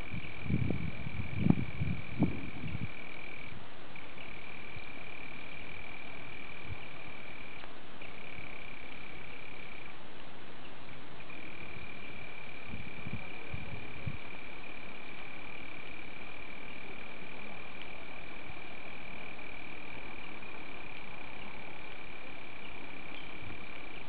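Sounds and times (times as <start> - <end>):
high insect trill: 0.0 - 24.0
steady background hiss: 0.0 - 24.0.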